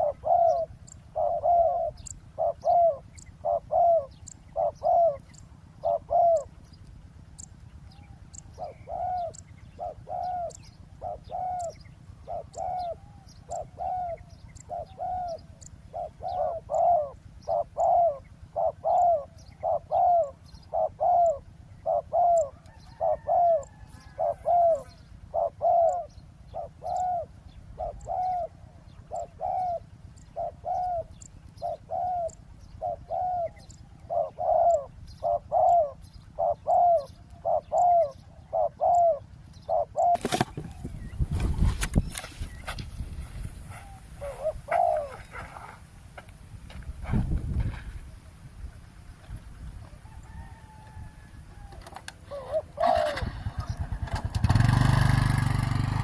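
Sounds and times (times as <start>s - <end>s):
doves cooing: 0.0s - 42.7s, 43.6s - 45.8s, 49.8s - 56.0s
small birds chirping: 0.0s - 46.4s, 51.6s - 56.0s.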